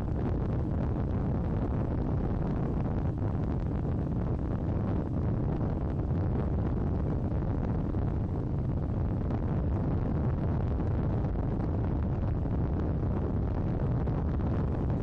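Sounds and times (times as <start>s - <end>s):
heavy wind noise on microphone: 0.0s - 15.0s.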